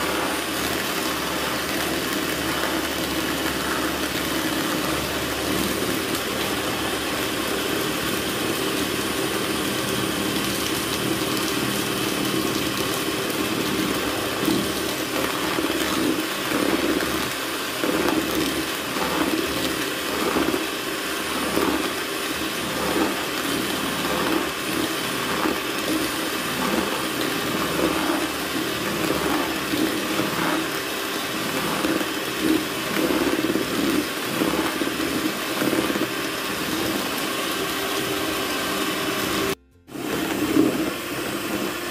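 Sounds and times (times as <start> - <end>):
electric hand mixer whirring: 0.0 - 41.9.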